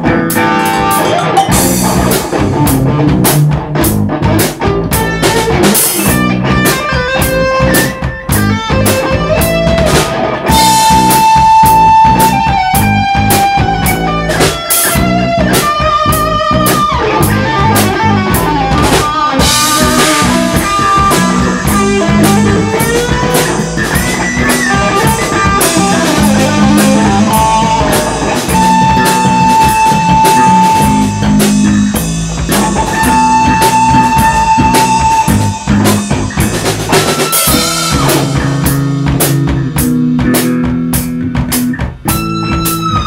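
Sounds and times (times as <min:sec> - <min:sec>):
bass guitar line: 0:00.0 - 0:43.0
drum kit beat: 0:00.0 - 0:43.0
electric guitar lead notes: 0:00.0 - 0:43.0.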